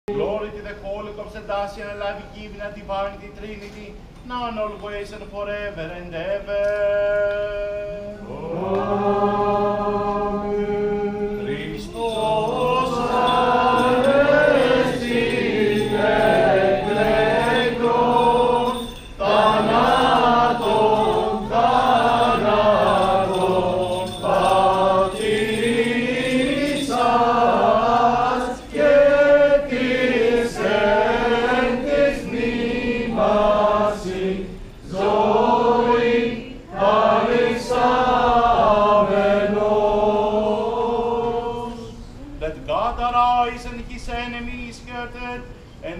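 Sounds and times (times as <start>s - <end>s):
congregation chanting a hymn: 6.1s - 43.7s.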